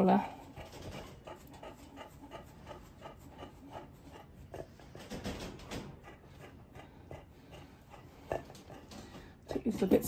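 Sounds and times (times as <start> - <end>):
dog panting softly: 0.0 - 10.0.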